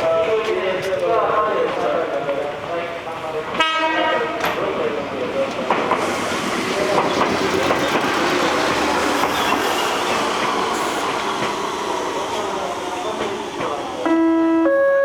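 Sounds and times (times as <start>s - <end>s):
train wheels rumbling on rail: 0.0s - 14.8s.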